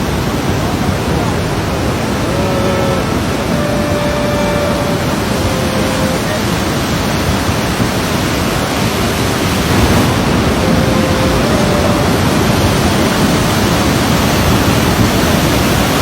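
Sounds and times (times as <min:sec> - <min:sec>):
floodwater rushing in river: 0:00.0 - 0:16.0.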